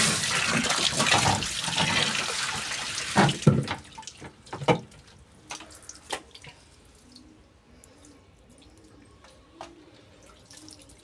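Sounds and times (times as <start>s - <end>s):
water splashing and dripping: 0.0s - 7.1s, 8.5s - 11.0s.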